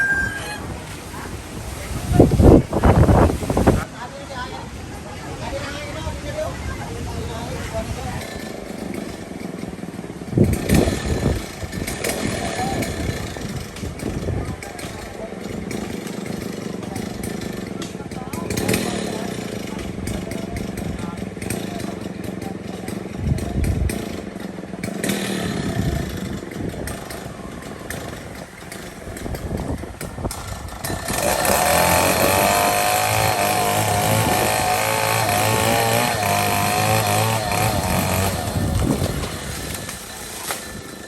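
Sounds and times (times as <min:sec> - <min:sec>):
rough noisy background: 0:00.0 - 0:41.0
small engine running: 0:06.4 - 0:41.0.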